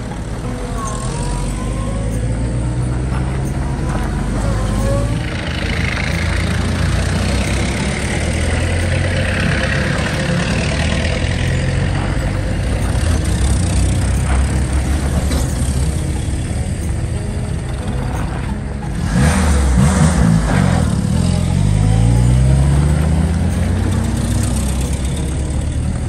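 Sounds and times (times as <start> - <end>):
jeep engines passing: 0.0 - 26.0.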